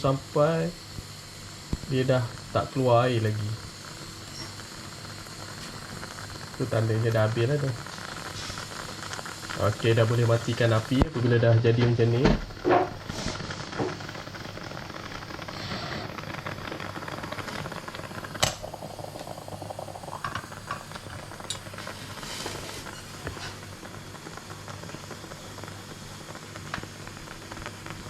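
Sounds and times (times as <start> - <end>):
gas flame hissing: 0.0 - 28.0
moka pot bubbling and sputtering: 0.0 - 28.0.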